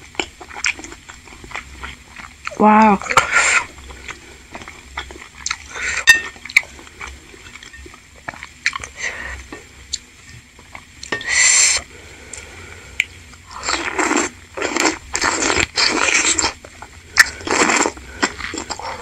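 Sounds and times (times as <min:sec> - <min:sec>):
wet chewing: 0:00.1 - 0:09.0, 0:12.3 - 0:19.0.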